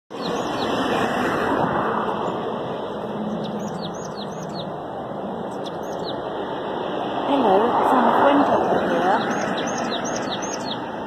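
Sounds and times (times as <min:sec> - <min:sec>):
passing road traffic: 0:00.1 - 0:11.0.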